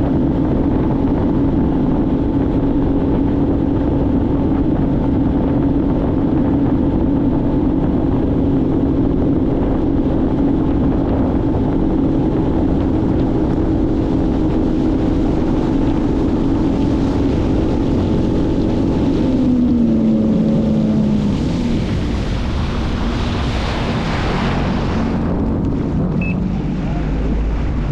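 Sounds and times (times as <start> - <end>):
water and wind noise: 0.0 - 27.9
watercraft engine running: 0.0 - 27.9.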